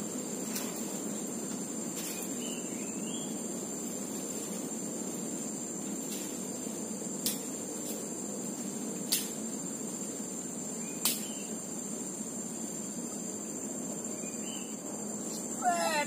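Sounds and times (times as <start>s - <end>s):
crickets shrilling: 0.0s - 16.0s.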